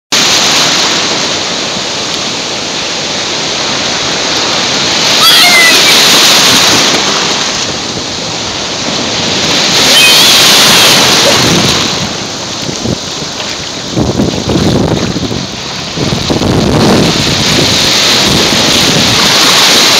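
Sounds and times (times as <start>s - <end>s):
ocean surf breaking: 0.1s - 19.9s.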